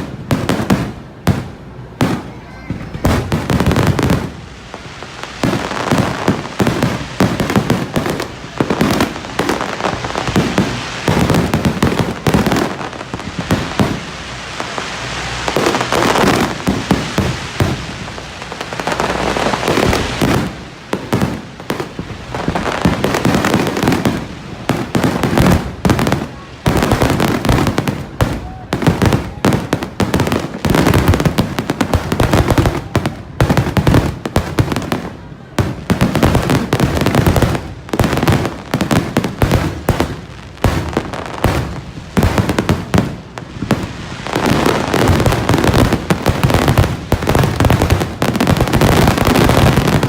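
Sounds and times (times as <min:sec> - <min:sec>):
fireworks bursting and crackling: 0:00.0 - 0:50.0.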